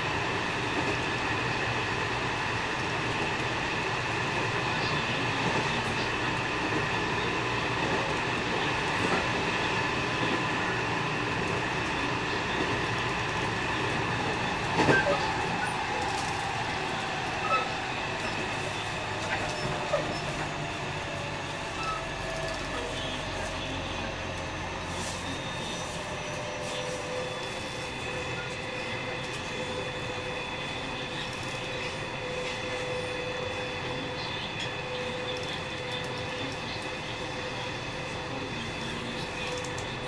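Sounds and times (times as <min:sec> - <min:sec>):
train inverter whining tones: 0:00.0 - 0:40.0
train rail noise: 0:00.0 - 0:40.0.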